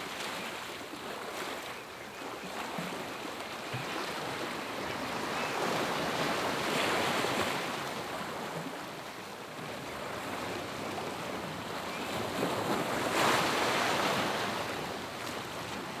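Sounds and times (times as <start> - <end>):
ocean waves breaking on shore: 2.6 - 16.0.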